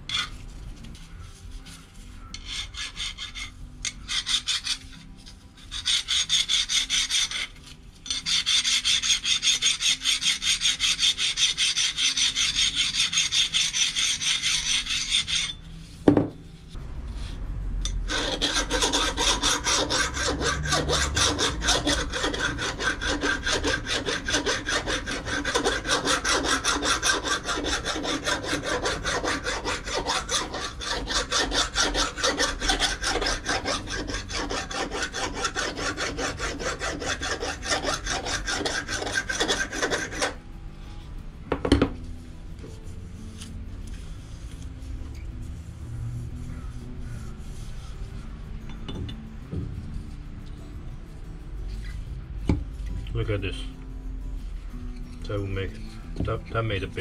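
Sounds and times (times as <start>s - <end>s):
stone rubbing on steel ring: 0.0s - 41.2s, 42.1s - 53.4s.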